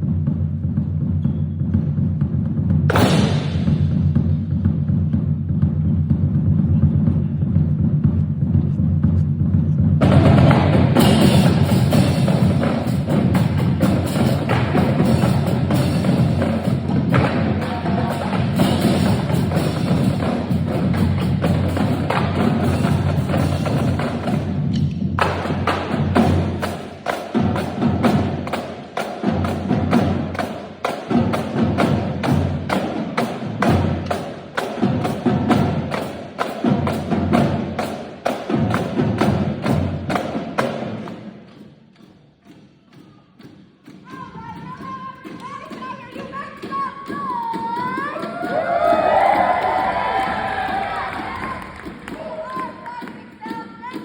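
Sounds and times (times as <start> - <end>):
live percussion music: 0.0 - 54.0.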